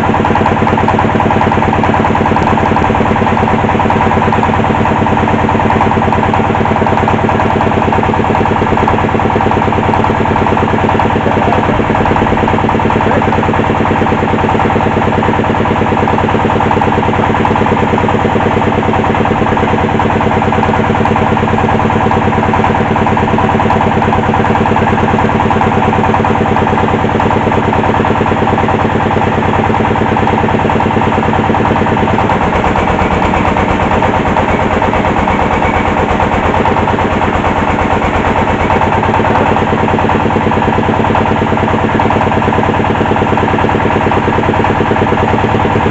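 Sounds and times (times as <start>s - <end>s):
drilling machine engine running: 0.0s - 45.9s.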